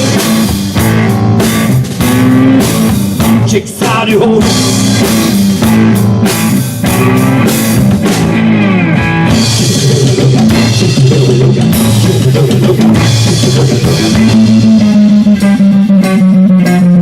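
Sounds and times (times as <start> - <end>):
bass guitar: 0.0 - 17.0
drum kit: 0.0 - 17.0
electric guitar: 0.0 - 17.0
guitar line bending in pitch: 0.0 - 17.0.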